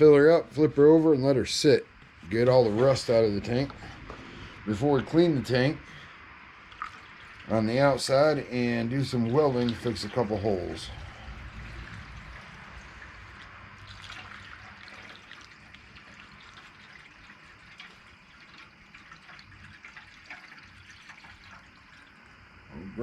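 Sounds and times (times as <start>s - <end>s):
liquid trickling into metal tank: 2.3s - 22.7s.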